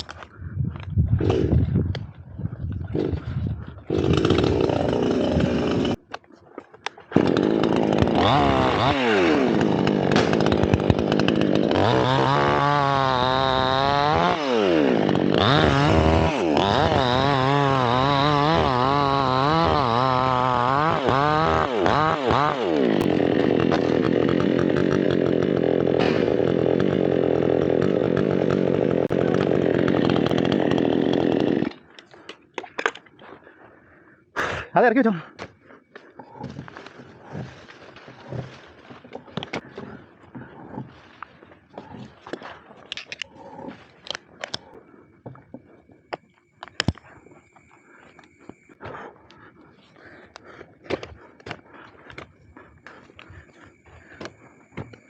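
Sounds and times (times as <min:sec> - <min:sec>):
chainsaw cutting wood: 0:01.2 - 0:01.8, 0:02.9 - 0:03.3, 0:03.9 - 0:06.1, 0:06.8 - 0:33.0, 0:36.4 - 0:49.1, 0:50.0 - 0:55.0.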